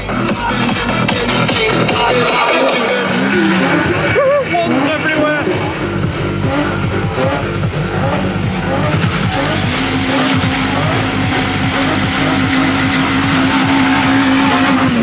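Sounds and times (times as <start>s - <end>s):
car engines revving: 0.0s - 15.0s
engine holding steady note: 0.0s - 15.0s.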